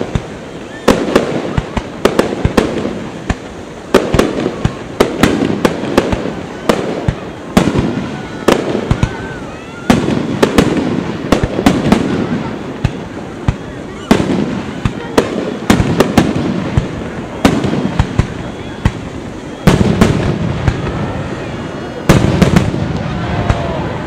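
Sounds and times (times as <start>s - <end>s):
continuous rumbling din: 0.0s - 24.0s
fireworks bangs: 0.0s - 24.0s.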